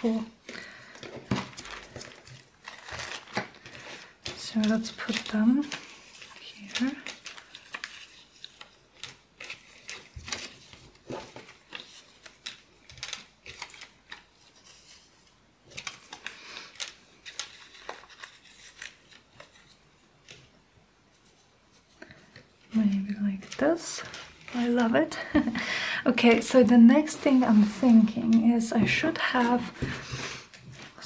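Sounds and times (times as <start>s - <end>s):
plastic sleeves crinkling: 0.0s - 20.5s, 21.2s - 25.6s.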